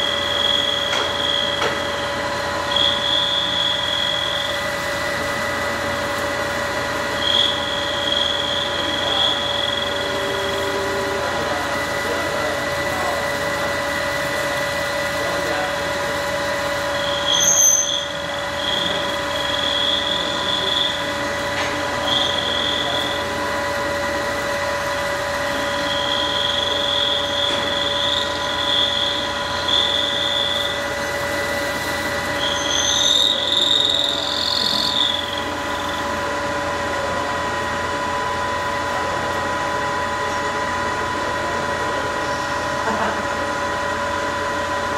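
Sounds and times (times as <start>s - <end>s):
cutting tool squeal: 0.0s - 36.6s
lathe machine whine: 0.0s - 44.9s.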